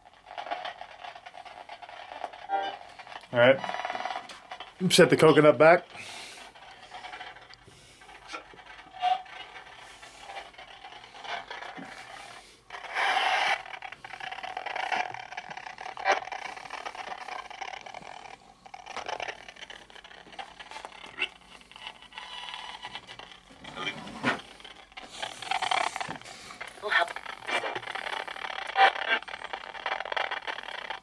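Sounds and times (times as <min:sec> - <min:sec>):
rustling and scraping: 0:00.0 - 0:31.0.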